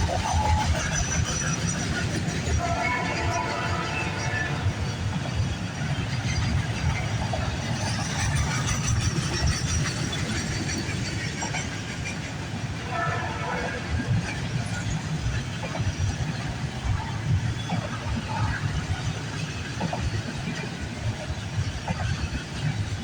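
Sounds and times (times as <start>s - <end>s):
freight train wheels rumbling: 0.0s - 23.0s
rail clicks: 0.0s - 23.0s.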